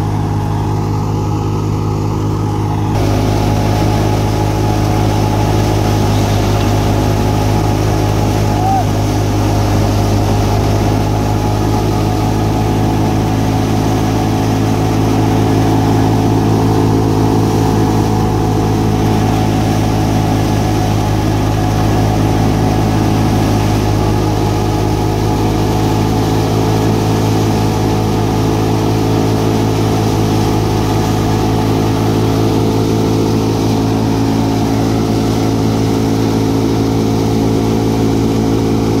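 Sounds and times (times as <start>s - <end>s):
thresher and diesel engine drone: 0.0s - 39.0s.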